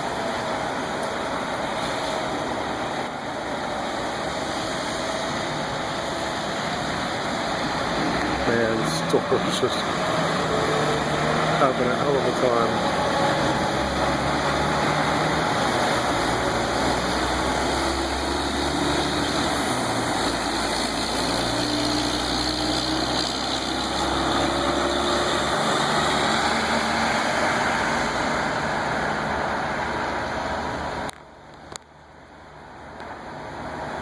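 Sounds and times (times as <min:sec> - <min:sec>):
loud steady rushing noise: 0:00.0 - 0:34.0.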